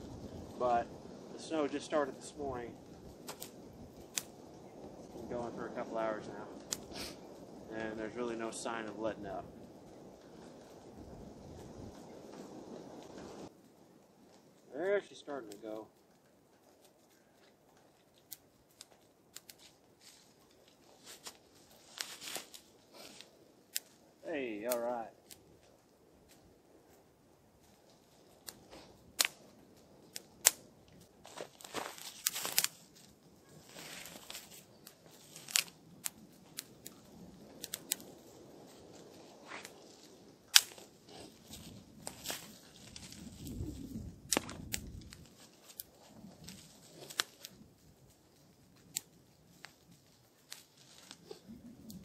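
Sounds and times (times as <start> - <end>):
twig fire crackling: 0.0 - 52.0.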